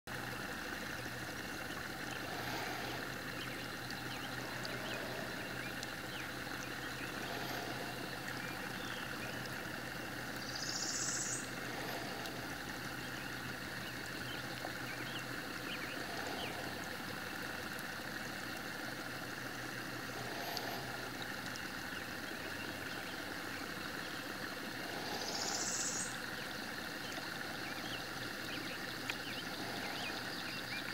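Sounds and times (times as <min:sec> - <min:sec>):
propellers churning water: 0:00.1 - 0:30.9
small motors humming: 0:00.1 - 0:30.9.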